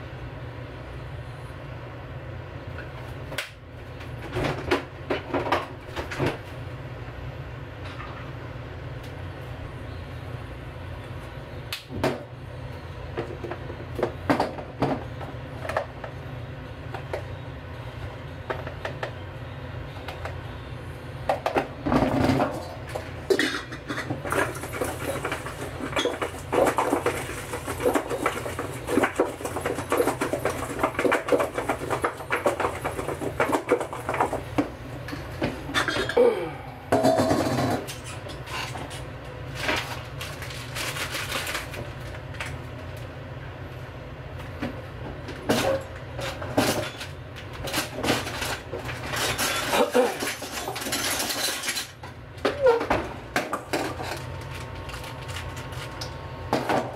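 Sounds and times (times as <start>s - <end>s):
low rumble of heating oil: 0.0s - 56.9s.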